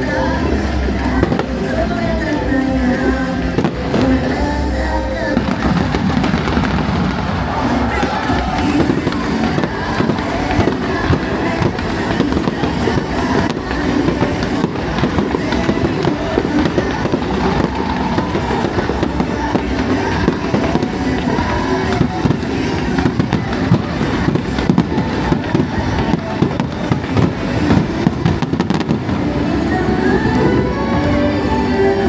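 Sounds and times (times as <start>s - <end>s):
fireworks crackling bursts: 0.0s - 32.0s
music playing: 0.0s - 32.0s.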